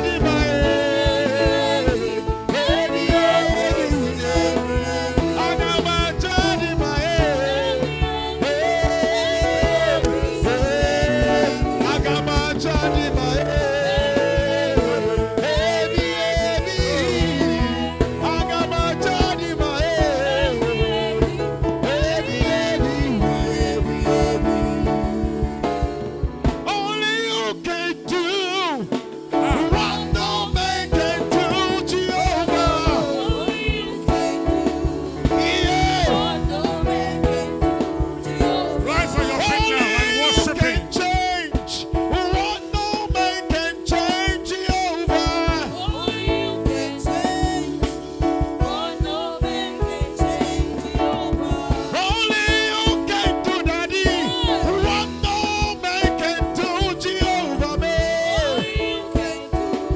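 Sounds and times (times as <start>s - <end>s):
drum beat: 0.0s - 59.9s
keyboard chords: 0.0s - 59.9s
voices singing: 0.0s - 59.9s.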